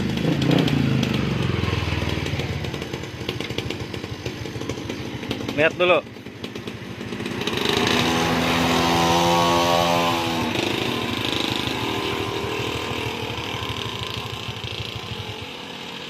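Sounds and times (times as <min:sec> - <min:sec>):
dirt bike engine pulling away: 0:00.0 - 0:16.0.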